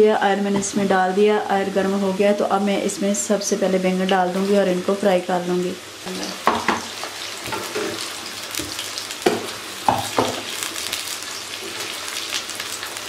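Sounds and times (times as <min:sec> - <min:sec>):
eggplant sizzling in hot oil: 0:00.2 - 0:13.0.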